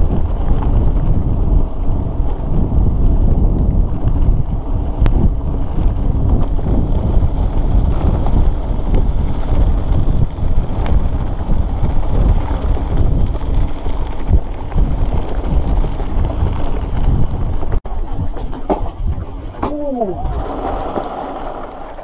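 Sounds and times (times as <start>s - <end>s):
bike clicks and rattles: 0.0s - 22.0s
wind buffeting microphone: 0.0s - 22.0s
tyres crunching on gravel: 3.8s - 22.0s.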